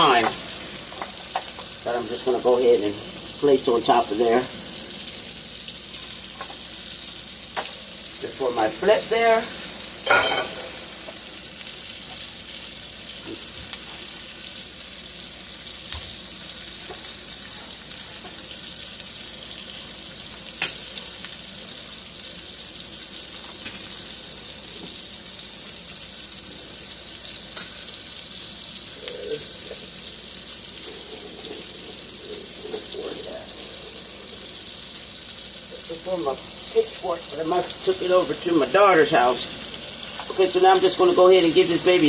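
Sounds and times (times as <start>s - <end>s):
steak sizzling in a pan: 0.0s - 42.0s.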